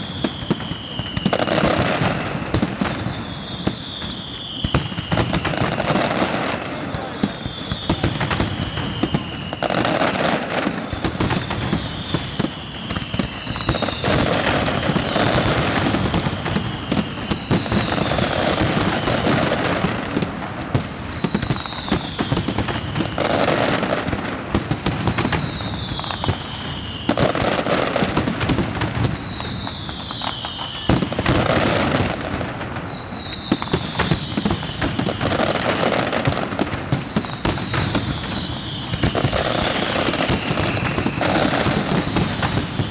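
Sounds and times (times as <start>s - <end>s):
fireworks crackling and banging: 0.0s - 42.9s
whistling fireworks: 0.0s - 42.9s.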